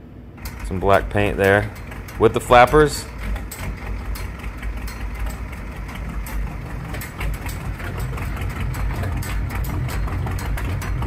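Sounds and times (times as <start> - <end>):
diesel engine idling: 0.4 - 11.0.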